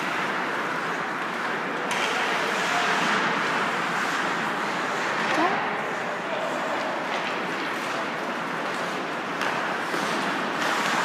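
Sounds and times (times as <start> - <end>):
skates on ice: 0.0 - 5.3, 5.9 - 11.0
small crowd noise: 0.0 - 11.0.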